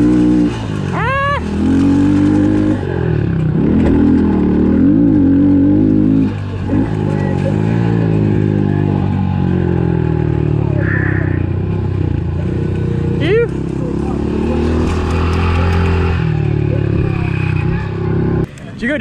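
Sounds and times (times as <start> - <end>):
small motorcycle engine revving: 0.0 - 18.5.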